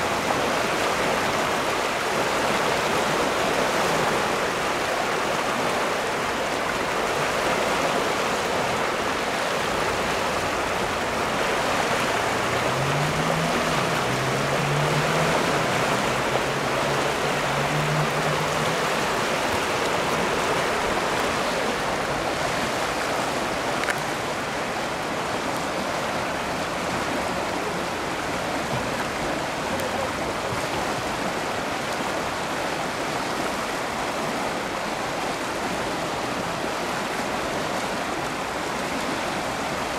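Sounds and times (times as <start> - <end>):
river rushing and churning: 0.0 - 39.9.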